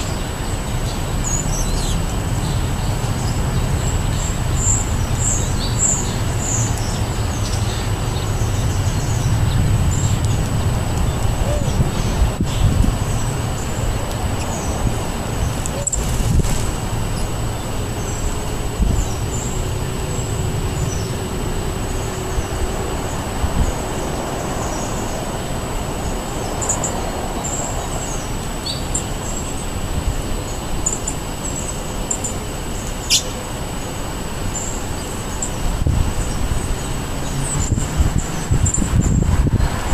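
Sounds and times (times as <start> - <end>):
road traffic rumble: 0.0 - 39.9
songbirds chirping: 0.0 - 39.9.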